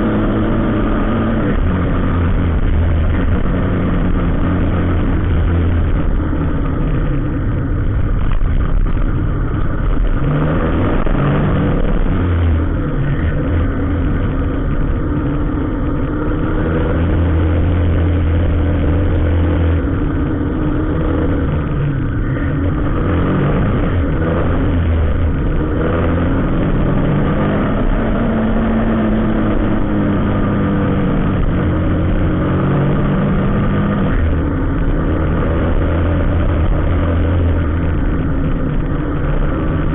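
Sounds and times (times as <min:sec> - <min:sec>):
vehicle engines in slow traffic: 0:00.0 - 0:39.9.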